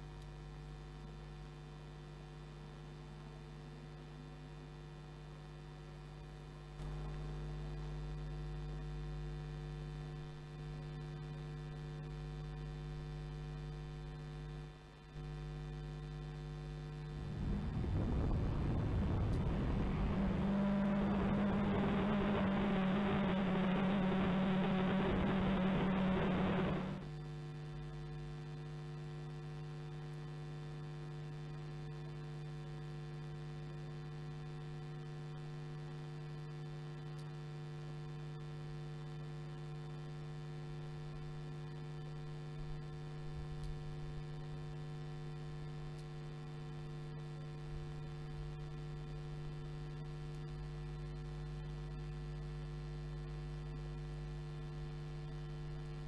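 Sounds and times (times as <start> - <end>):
electrical hum with buzz: 0.0 - 56.0.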